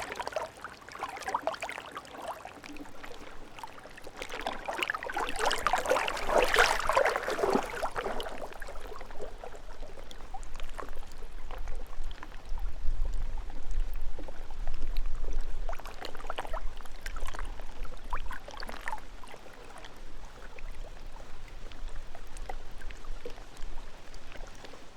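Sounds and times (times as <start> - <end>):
water flowing and gurgling: 0.0 - 24.9.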